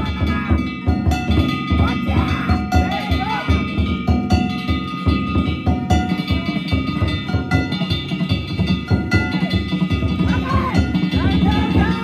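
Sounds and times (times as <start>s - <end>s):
hand gongs clanging: 0.0s - 12.0s
taiko drums beating: 0.0s - 12.0s.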